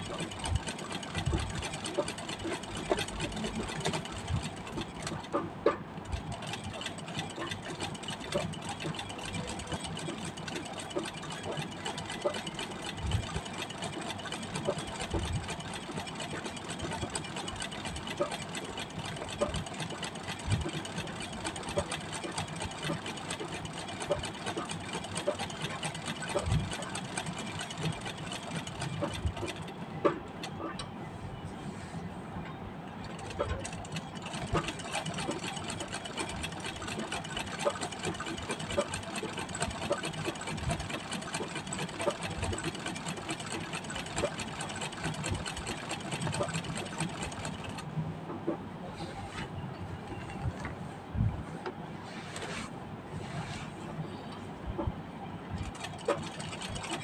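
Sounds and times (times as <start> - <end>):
sewing machine stitching clatter: 0.0 - 30.8, 33.0 - 47.9, 55.6 - 57.0.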